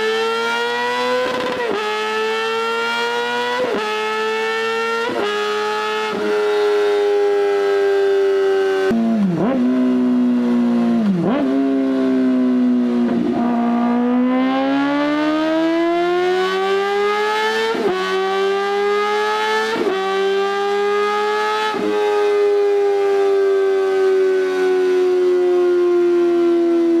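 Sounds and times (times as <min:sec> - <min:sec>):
motorcycle engine wailing at high revs: 0:00.0 - 0:27.0.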